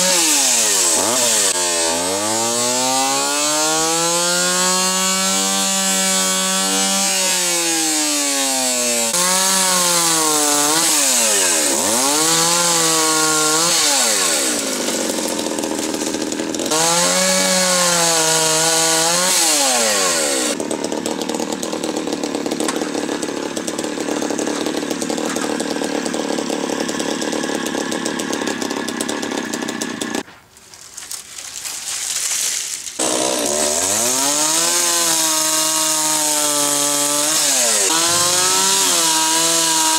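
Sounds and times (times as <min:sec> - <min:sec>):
chainsaw cutting wood: 0:00.0 - 0:30.3, 0:31.0 - 0:39.9.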